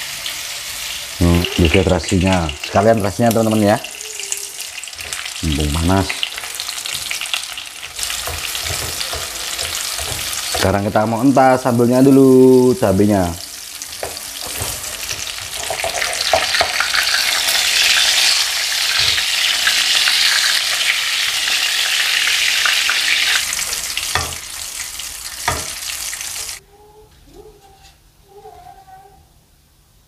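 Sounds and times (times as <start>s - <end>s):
hot oil sizzling in a wok: 0.0s - 26.6s.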